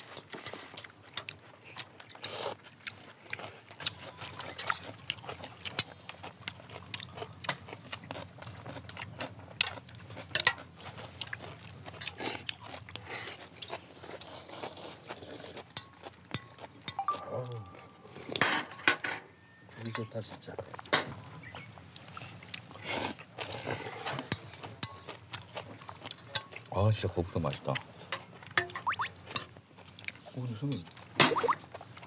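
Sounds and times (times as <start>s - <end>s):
people slurping and chewing: 0.0s - 18.7s, 19.8s - 32.0s.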